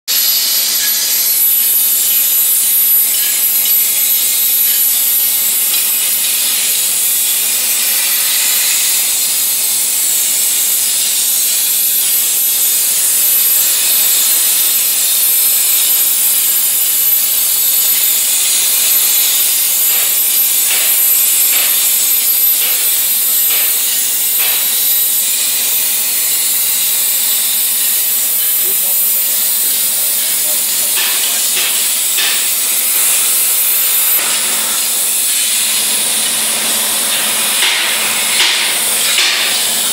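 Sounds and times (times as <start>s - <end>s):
plasma torch hissing: 0.1s - 39.9s.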